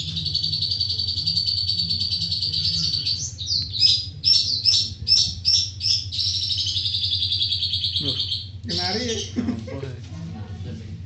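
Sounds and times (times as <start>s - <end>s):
bird singing high trill: 0.0s - 9.3s.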